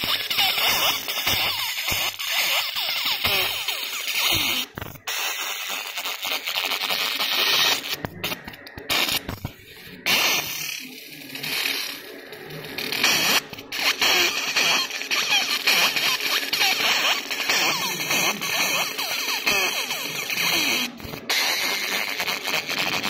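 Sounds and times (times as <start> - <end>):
laser marking sizzling hiss: 0.0 - 23.0.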